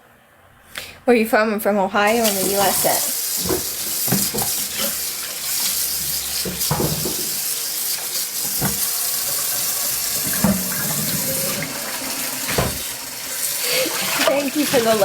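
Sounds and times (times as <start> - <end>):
water running from a tap: 2.1 - 15.0.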